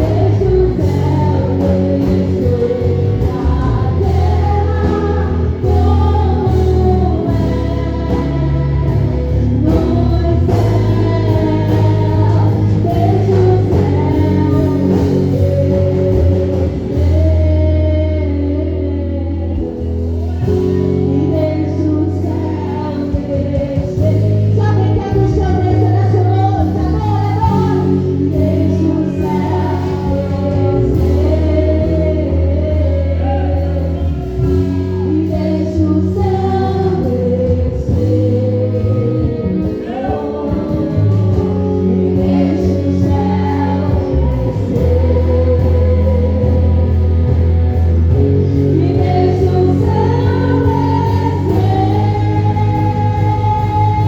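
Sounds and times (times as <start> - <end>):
band with held bass notes: 0.0 - 54.0
voices singing gospel song: 0.0 - 54.0.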